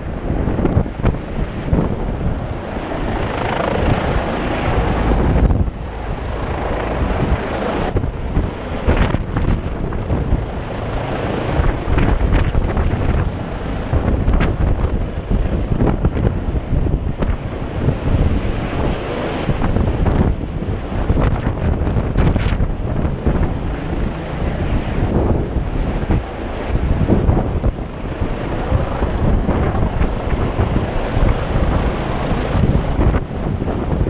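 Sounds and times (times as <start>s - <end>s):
helicopter rotor wind noise: 0.0s - 34.0s.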